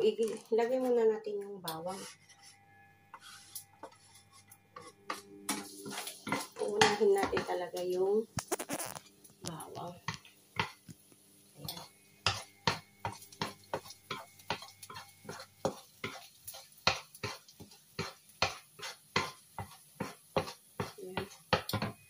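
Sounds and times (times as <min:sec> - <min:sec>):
wooden spatula scraping frying pan: 0:01.9 - 0:09.1, 0:11.6 - 0:22.0.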